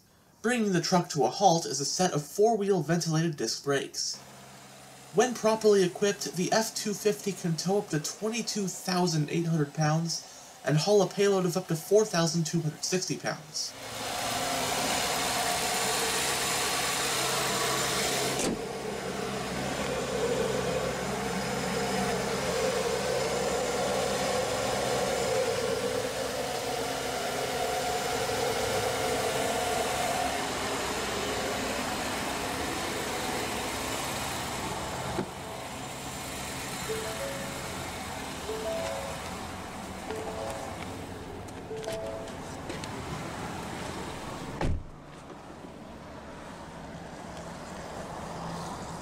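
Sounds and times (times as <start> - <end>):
diesel engine idling: 4.1 - 12.8, 13.7 - 49.0.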